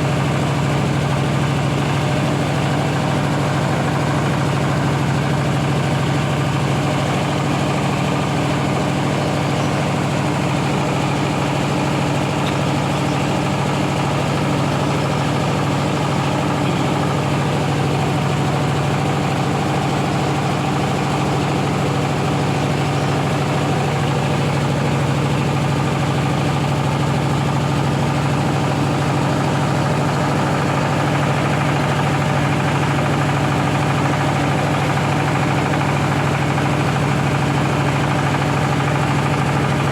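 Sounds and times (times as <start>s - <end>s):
rice milling machine droning: 0.0s - 39.9s.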